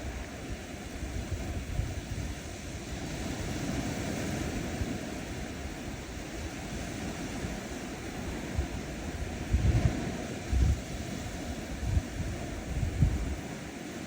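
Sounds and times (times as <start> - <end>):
gentle waves washing onto beach: 0.0 - 14.0.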